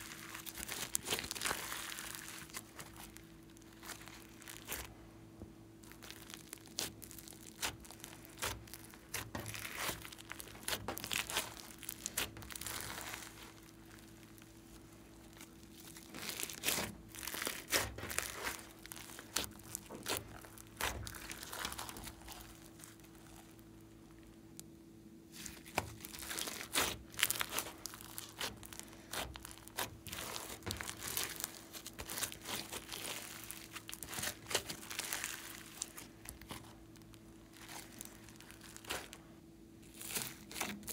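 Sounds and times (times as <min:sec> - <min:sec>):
slime crackling and popping: 0:00.0 - 0:04.9, 0:05.8 - 0:24.7, 0:25.3 - 0:40.9.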